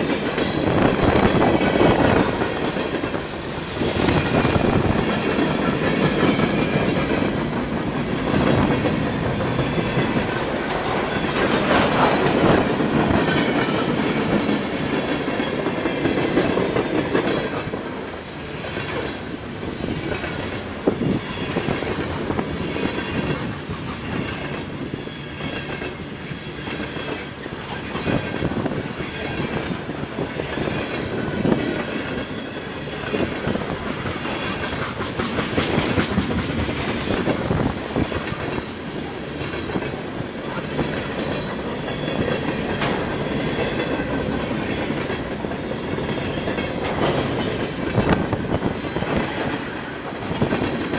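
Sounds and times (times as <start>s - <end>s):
train wheels clickety-clack: 0.0s - 50.9s.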